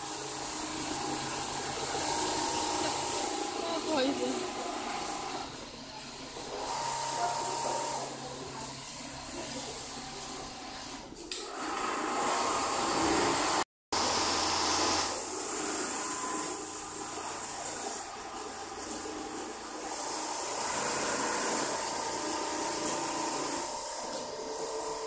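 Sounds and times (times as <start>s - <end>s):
sewing machines whirring: 0.0s - 25.0s.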